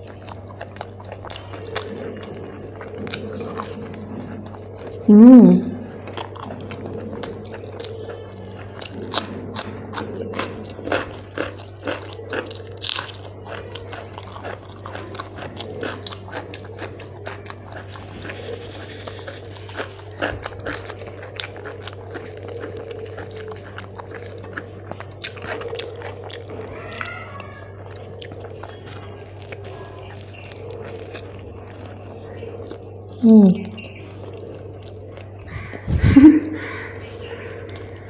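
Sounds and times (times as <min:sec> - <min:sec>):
crunchy chewing: 0:00.0 - 0:38.0.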